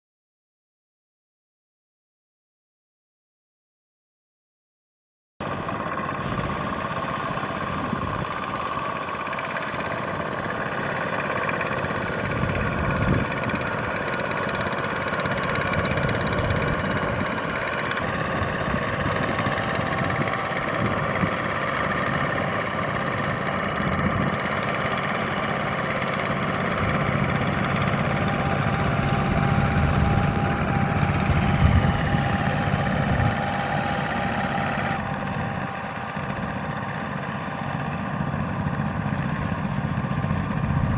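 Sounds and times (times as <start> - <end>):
tractor diesel engine running: 5.4 - 40.9.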